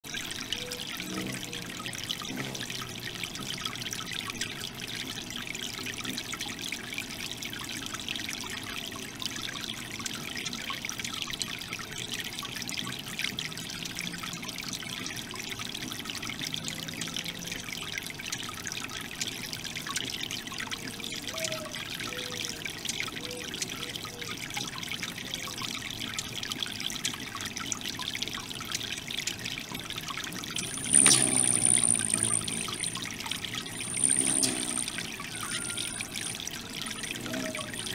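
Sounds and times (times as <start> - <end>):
fountain water trickling and splashing: 0.0 - 37.9.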